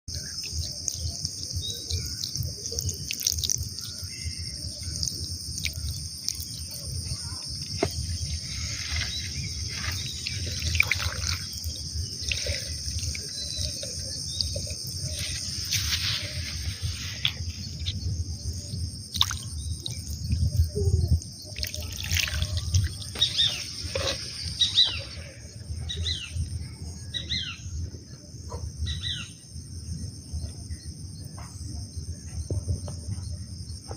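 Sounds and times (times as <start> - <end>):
birds chirping: 0.1 - 28.3.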